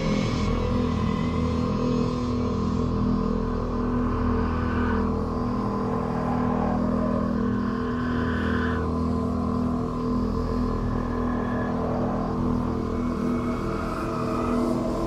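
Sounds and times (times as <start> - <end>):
distorted drone metal: 0.2 - 15.0.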